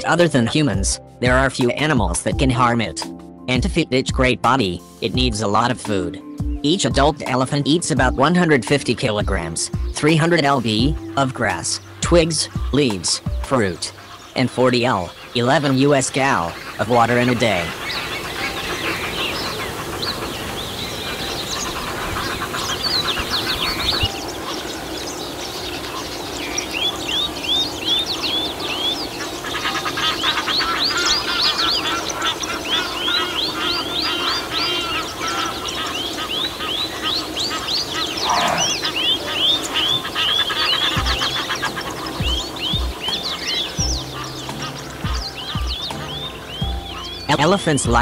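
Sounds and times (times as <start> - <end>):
birds calling: 0.0 - 48.0.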